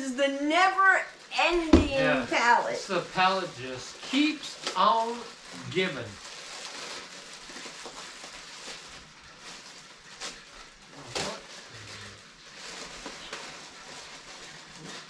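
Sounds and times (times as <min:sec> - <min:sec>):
cardboard and plastic rustling: 0:01.2 - 0:15.0.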